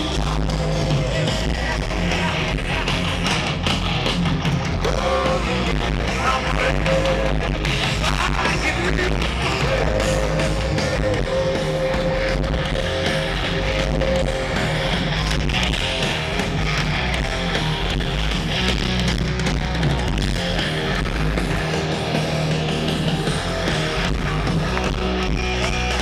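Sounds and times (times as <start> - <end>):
heavy metal band playing live: 0.0 - 26.0.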